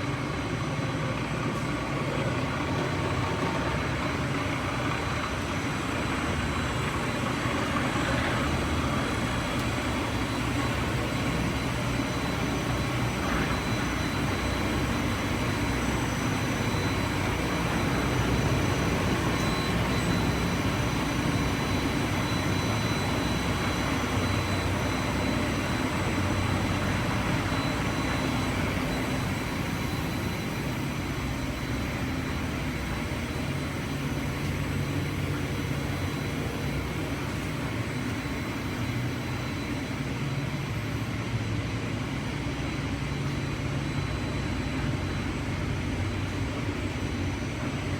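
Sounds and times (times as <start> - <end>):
grinding machine humming and whining: 0.0 - 47.9.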